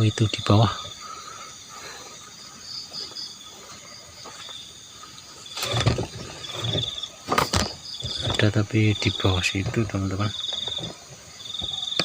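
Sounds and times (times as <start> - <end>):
high insect hum: 0.0 - 12.0
insects trilling: 0.0 - 12.0.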